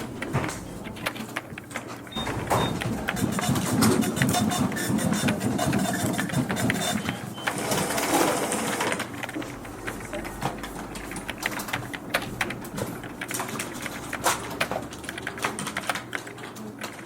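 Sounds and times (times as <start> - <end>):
fax machine rattling: 0.0 - 17.0
keyboard typing clicks: 0.0 - 17.0.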